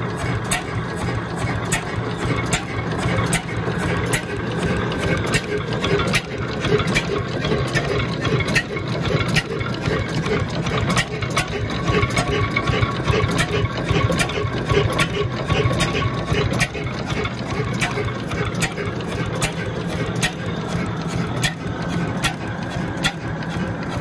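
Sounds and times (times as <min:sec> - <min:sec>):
oil engine running steadily: 0:00.0 - 0:24.0.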